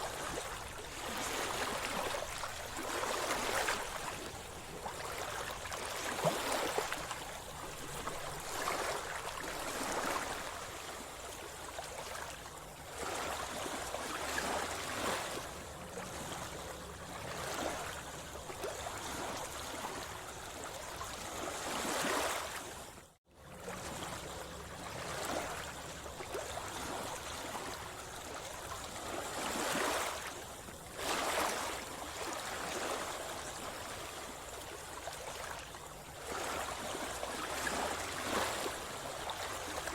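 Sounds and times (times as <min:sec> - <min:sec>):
sea water splashing and lapping: 0:00.0 - 0:39.9.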